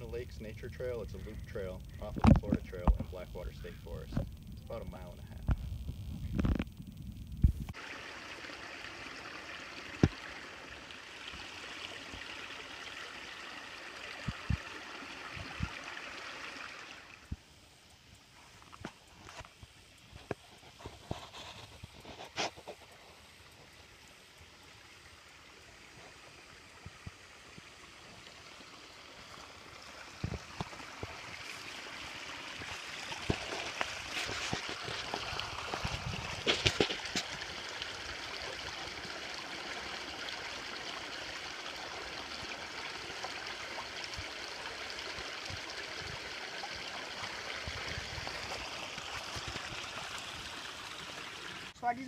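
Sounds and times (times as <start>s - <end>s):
creek trickling: 0.0s - 52.0s.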